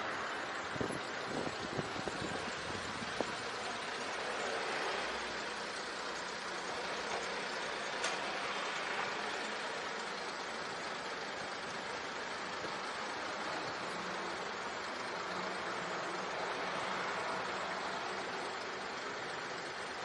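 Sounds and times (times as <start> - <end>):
city road traffic: 0.0 - 20.0
vehicle engine humming: 0.0 - 20.0.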